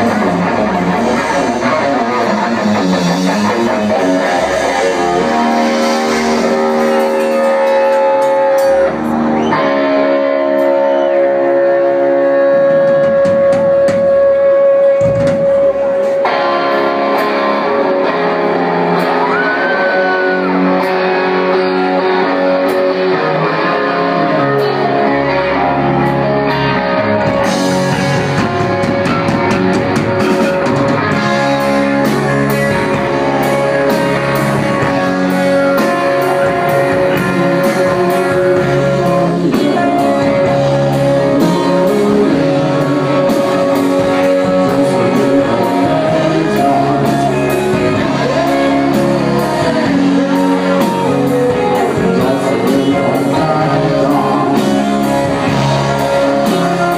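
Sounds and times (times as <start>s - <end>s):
bass guitar: 0.0s - 56.9s
electric guitar: 0.0s - 56.9s
live rock band playing: 0.0s - 56.9s.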